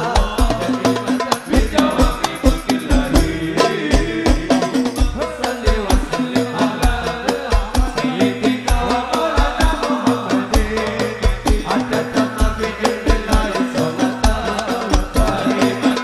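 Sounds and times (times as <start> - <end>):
frame drums and bass drum: 0.0 - 16.0
voices singing devotional melody: 0.0 - 16.0.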